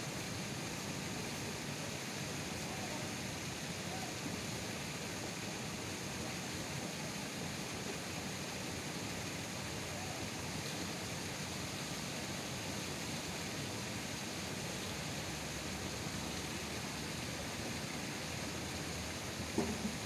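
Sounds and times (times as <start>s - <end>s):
rain hissing: 0.0s - 20.0s.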